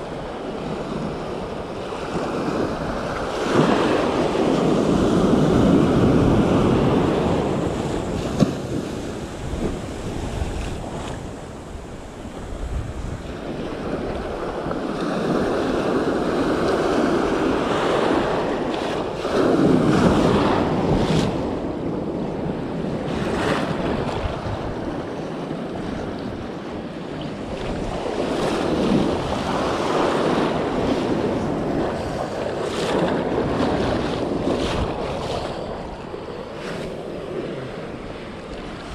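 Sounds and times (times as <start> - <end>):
sea waves breaking on shore: 0.0 - 38.9
wind buffeting microphone: 0.0 - 38.9.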